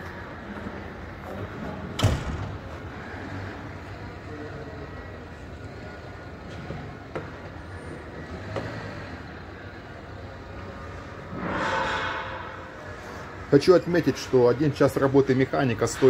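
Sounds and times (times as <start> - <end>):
workshop hum and rumble: 0.0 - 16.0.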